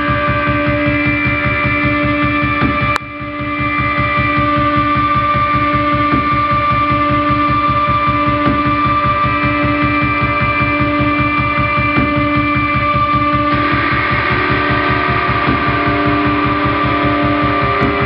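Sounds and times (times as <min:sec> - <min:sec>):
electronic drone held tone: 0:00.0 - 0:18.0
low pulsing throb: 0:00.0 - 0:18.0.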